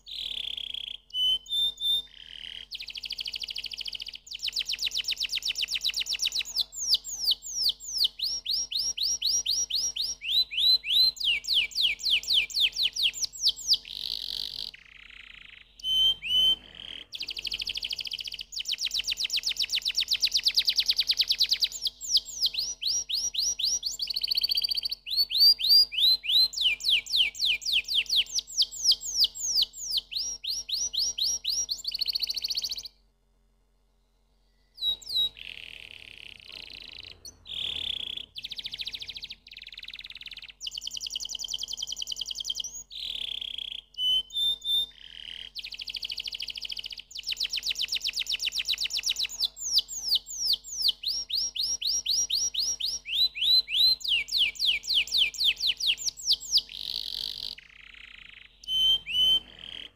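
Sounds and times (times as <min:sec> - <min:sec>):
canary singing trills: 0:00.0 - 0:33.0, 0:34.6 - 0:59.9.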